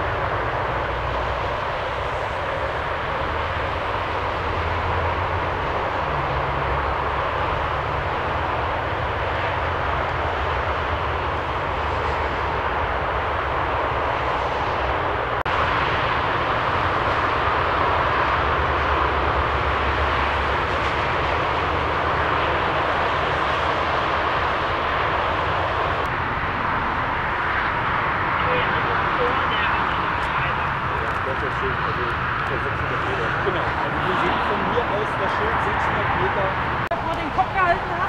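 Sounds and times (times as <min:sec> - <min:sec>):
low engine hum: 0:00.0 - 0:38.0
motorway traffic noise: 0:00.0 - 0:38.0.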